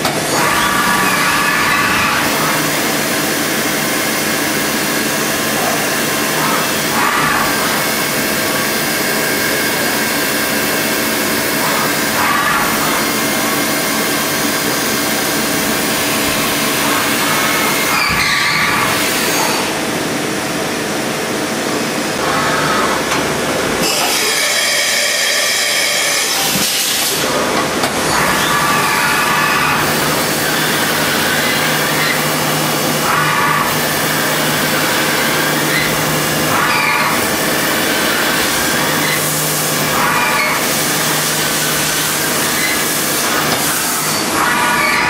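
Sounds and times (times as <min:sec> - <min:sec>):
machining centre mechanical whine: 0:00.0 - 0:45.0.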